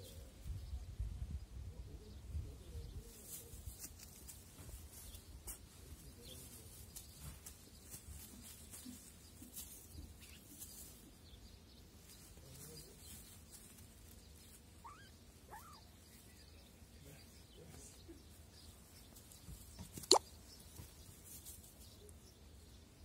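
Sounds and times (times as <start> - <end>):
kittens rustling and scuffing: 3.0 - 16.9, 17.6 - 22.5.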